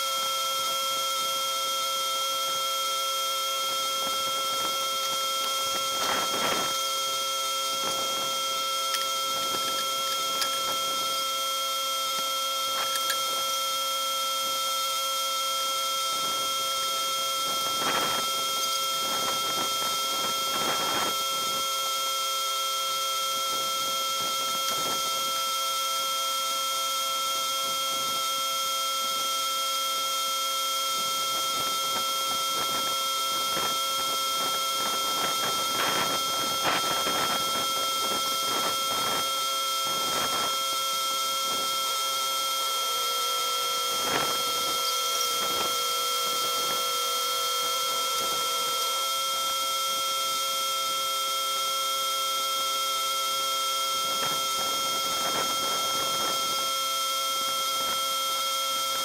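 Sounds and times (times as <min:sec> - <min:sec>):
high-pitched whine: 0:00.0 - 0:59.0.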